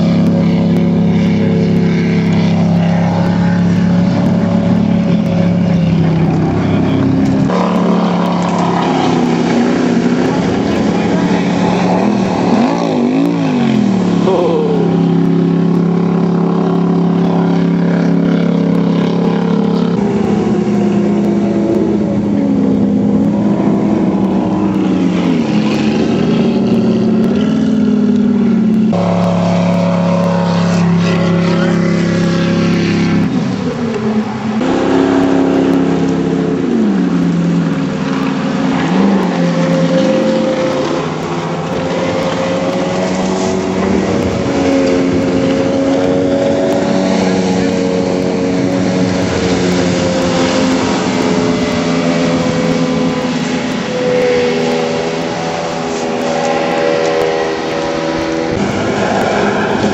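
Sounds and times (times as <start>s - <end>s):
jet boat engine revving: 0.0s - 59.9s.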